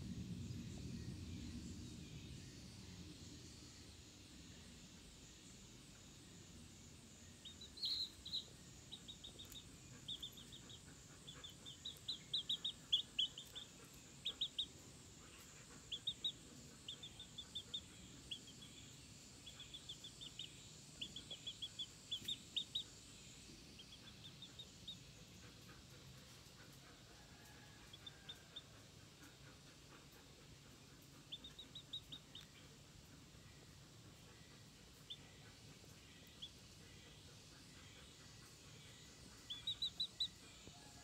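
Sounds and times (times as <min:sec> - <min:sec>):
chick peeping: 0:07.4 - 0:33.3, 0:34.0 - 0:41.0.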